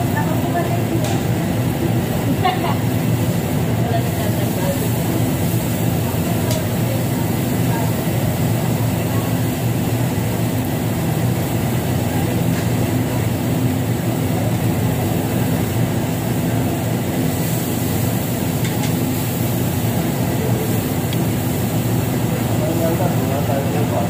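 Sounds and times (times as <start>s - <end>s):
ventilation fans droning: 0.0s - 24.0s.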